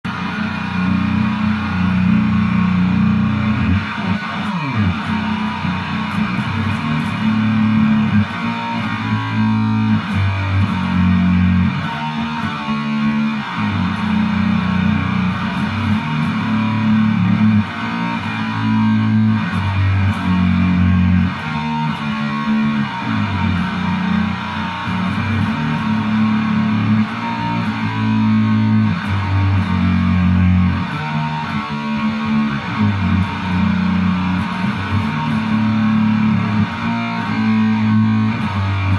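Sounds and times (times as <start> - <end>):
bass line: 0.0 - 38.9
rock music with electric guitar: 0.0 - 38.9.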